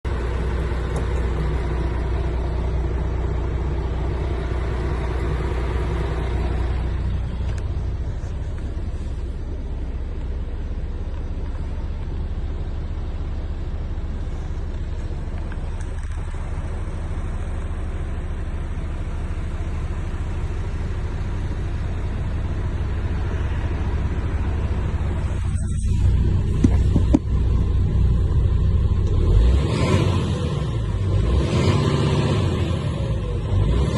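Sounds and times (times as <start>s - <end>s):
truck diesel engine rumbling: 0.0s - 33.9s.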